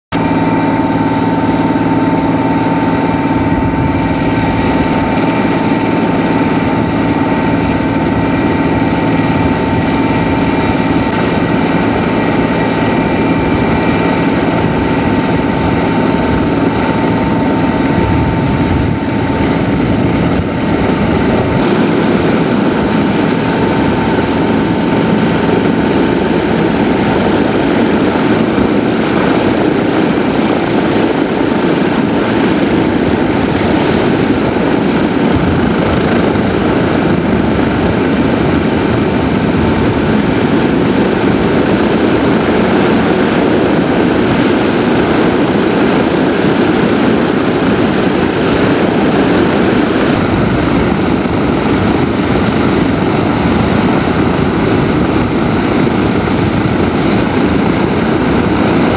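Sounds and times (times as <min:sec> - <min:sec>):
engine whine: 0:00.0 - 0:58.9
propeller engines rumbling: 0:00.0 - 0:58.9.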